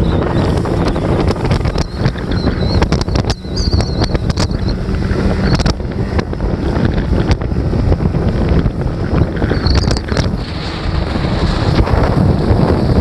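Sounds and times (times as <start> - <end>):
boat motor running: 0.0 - 13.0
wind buffeting microphone: 0.0 - 13.0.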